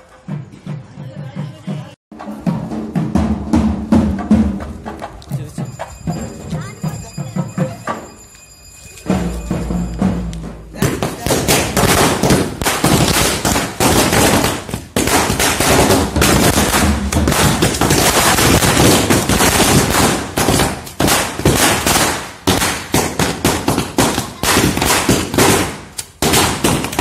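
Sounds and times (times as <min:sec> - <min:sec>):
firecrackers banging: 0:02.2 - 0:27.0.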